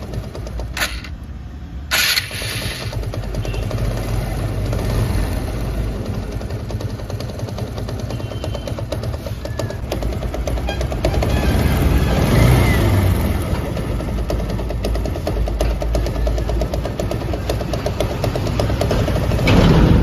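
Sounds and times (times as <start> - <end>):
motorcycle engine idling with rattle: 0.0 - 12.2, 13.2 - 20.0.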